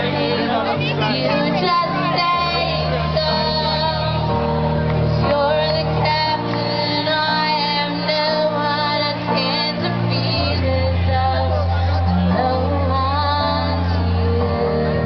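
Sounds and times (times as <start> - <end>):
woman singing: 0.0 - 4.6, 5.2 - 15.0.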